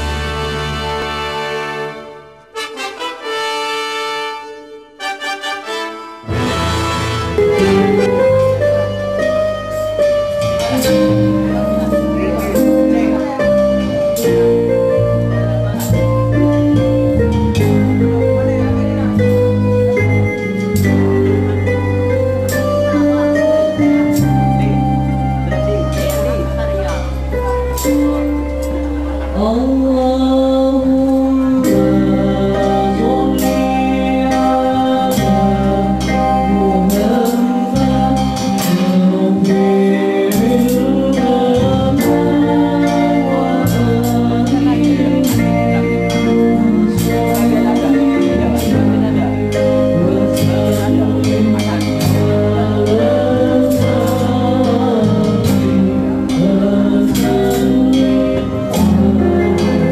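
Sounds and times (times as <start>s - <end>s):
band with electric guitars: 0.0s - 59.9s
person singing: 6.2s - 59.9s
steady percussion beat: 6.3s - 29.3s, 31.7s - 59.9s.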